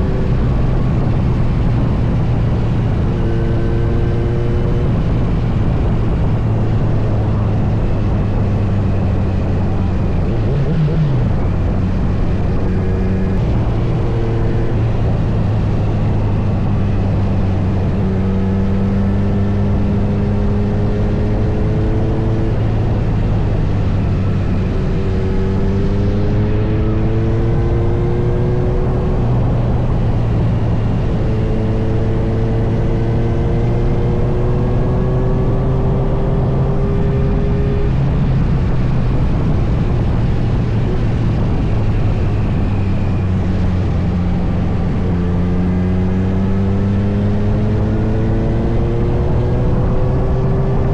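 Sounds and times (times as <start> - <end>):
motorcycle engine revving: 0.0 - 50.9
road and wind noise: 0.0 - 50.9.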